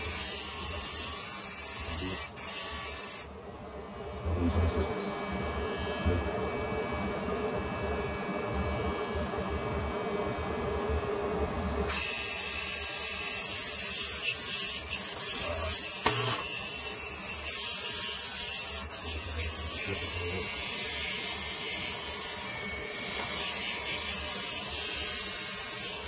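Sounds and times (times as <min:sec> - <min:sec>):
electric hair clippers buzzing: 0:00.0 - 0:03.4, 0:04.6 - 0:26.0.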